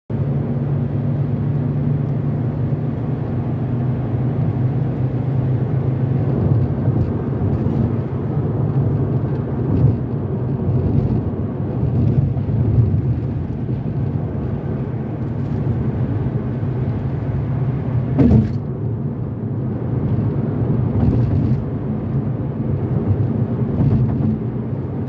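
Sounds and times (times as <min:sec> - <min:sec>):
car cabin road and engine rumble: 0:00.1 - 0:25.0.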